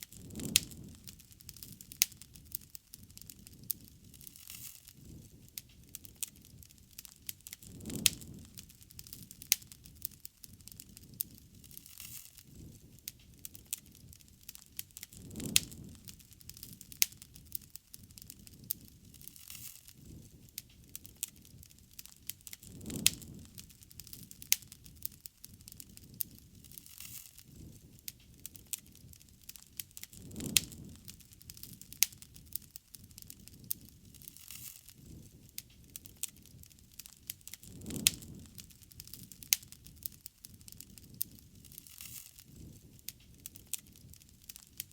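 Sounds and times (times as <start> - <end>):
bonfire crackling: 0.0 - 44.9
low rumble of flames: 0.0 - 44.9.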